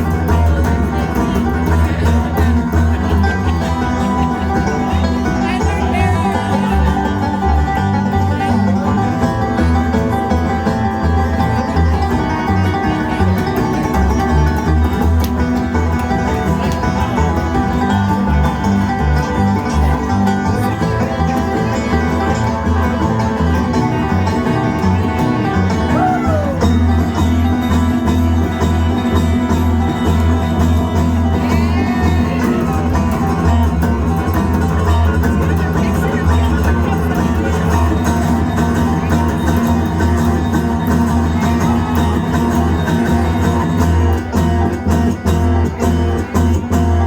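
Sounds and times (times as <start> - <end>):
banjo picking: 0.0 - 47.0
bass line: 0.0 - 47.0
guitar picking: 0.0 - 47.0.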